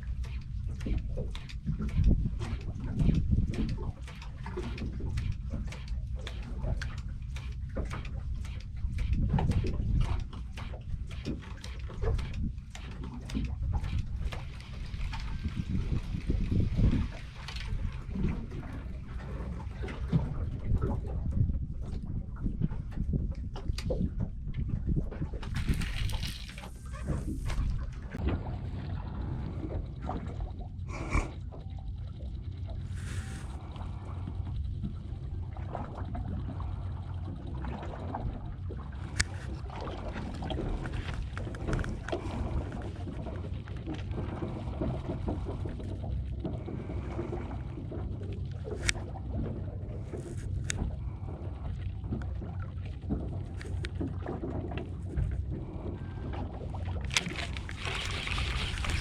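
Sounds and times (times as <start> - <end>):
boat engine low rumble: 0.0 - 59.0.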